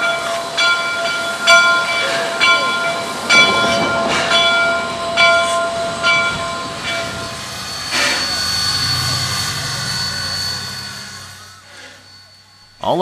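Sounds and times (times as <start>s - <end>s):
locomotive bell ringing: 0.0s - 10.8s.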